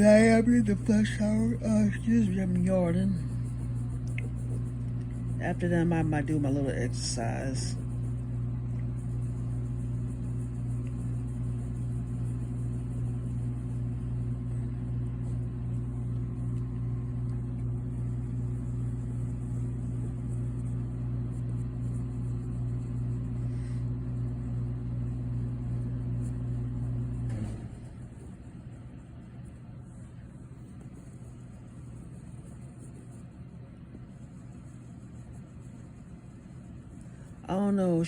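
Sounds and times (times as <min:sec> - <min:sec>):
electrical motor hum: 0:00.0 - 0:38.0.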